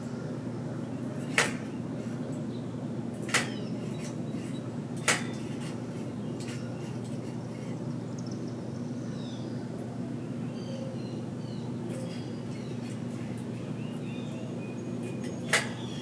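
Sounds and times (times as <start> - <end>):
steady low hum: 0.0 - 16.0
small birds chirping: 0.8 - 16.0.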